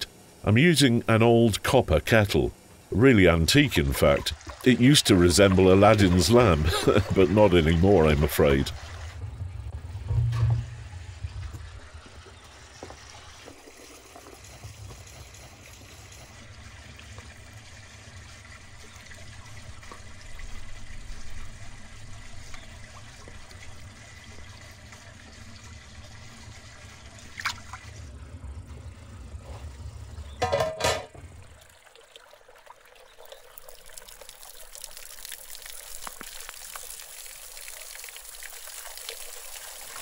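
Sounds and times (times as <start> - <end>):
low outdoor background: 0.0 - 40.0
water dribbling and splashing: 2.1 - 40.0.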